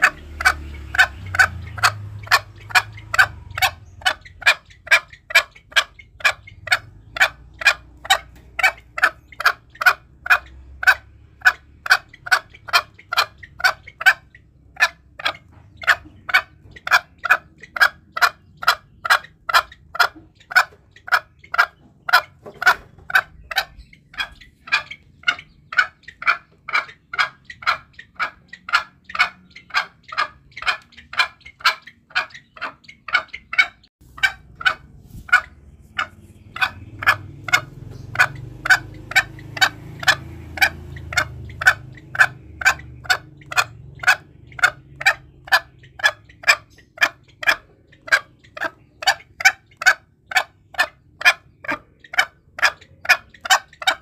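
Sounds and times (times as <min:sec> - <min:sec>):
junglefowl clucking calls: 0:00.0 - 0:54.0.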